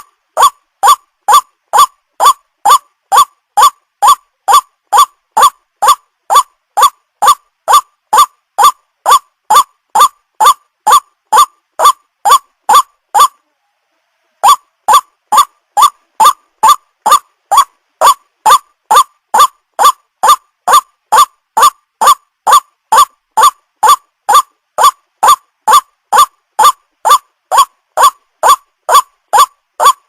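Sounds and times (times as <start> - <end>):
waterhen calling short sharp notes: 0.0 - 13.4, 14.4 - 30.0.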